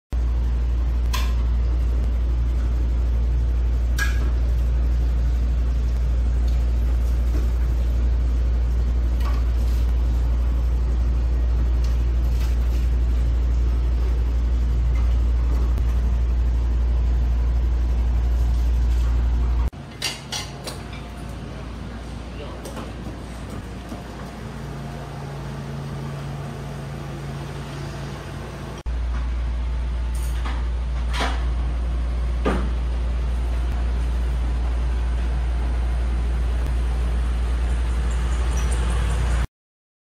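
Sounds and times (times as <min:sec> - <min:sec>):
loud steady low hum: 0:00.1 - 0:39.5.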